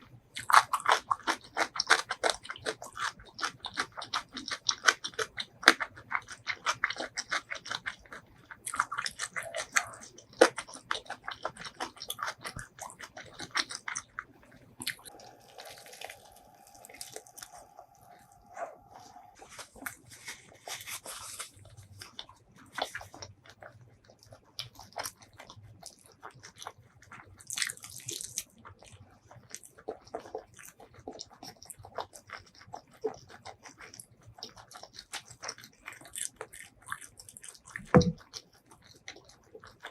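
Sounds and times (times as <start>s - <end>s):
person chewing crunchy food: 0.3s - 39.9s.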